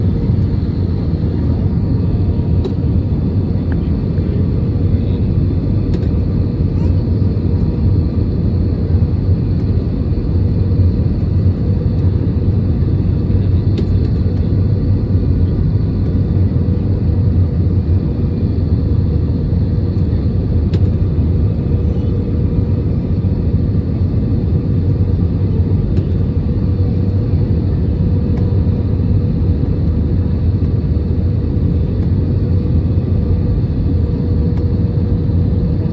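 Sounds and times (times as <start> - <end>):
airliner cabin rumble: 0.0 - 35.9.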